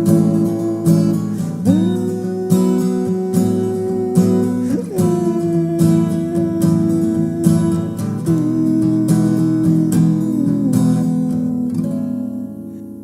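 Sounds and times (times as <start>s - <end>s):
acoustic guitar strumming: 0.0s - 13.0s
held guitar melody note: 0.0s - 13.0s.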